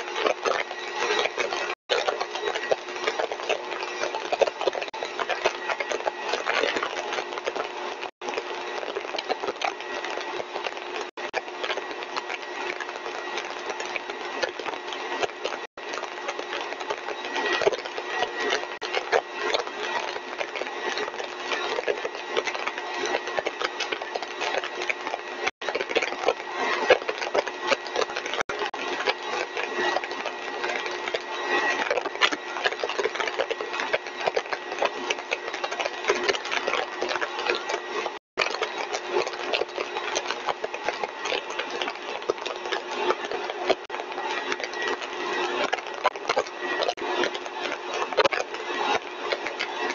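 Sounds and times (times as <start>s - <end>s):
compressor running: 0.0s - 49.9s
dense crackling clicks: 0.0s - 49.9s.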